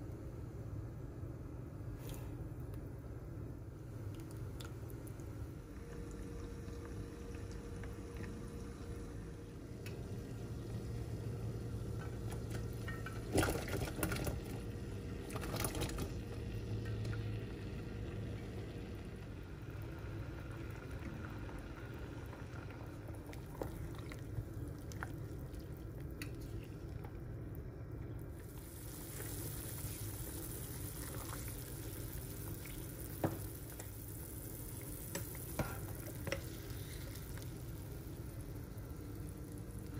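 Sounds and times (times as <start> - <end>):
water boiling in saucepan: 0.0 - 39.9.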